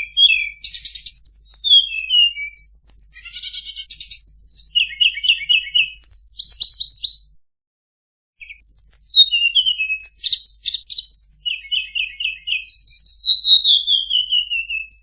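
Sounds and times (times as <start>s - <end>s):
songbird singing: 0.0s - 7.4s, 8.4s - 15.0s.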